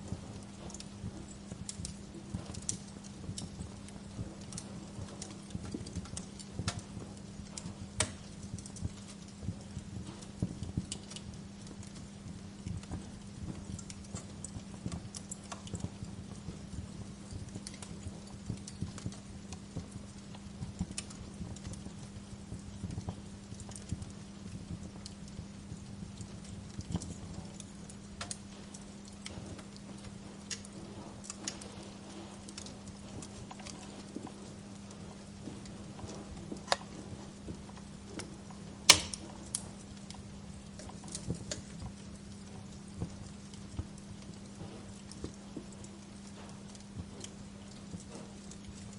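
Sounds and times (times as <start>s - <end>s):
bonfire crackling and popping: 0.0s - 48.9s
low steady hum: 0.0s - 48.9s.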